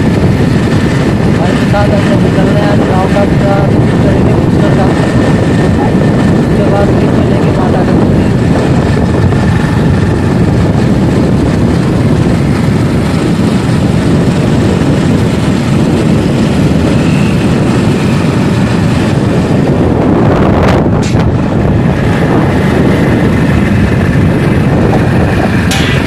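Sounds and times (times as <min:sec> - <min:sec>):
motorcycle engine running: 0:00.0 - 0:26.0
wind rush on microphone: 0:00.0 - 0:26.0.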